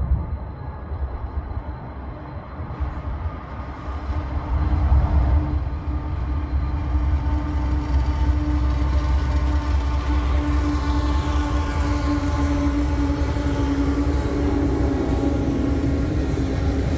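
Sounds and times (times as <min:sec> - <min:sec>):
diesel locomotive rumble: 0:00.0 - 0:16.9.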